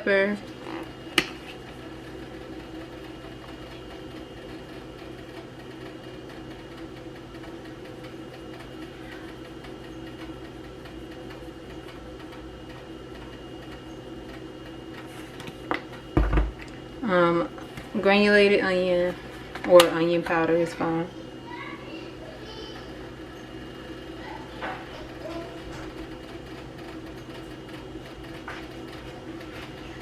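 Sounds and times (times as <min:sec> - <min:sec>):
kitchen appliance humming: 0:00.0 - 0:30.0.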